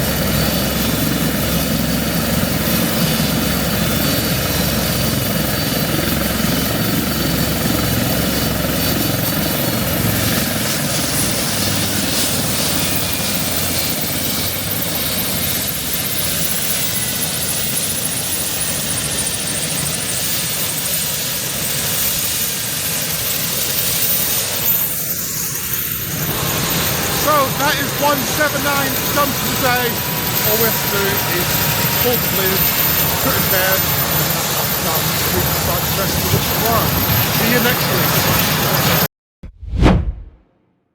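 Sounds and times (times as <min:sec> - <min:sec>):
helicopter engines and rotor: 0:00.0 - 0:39.1.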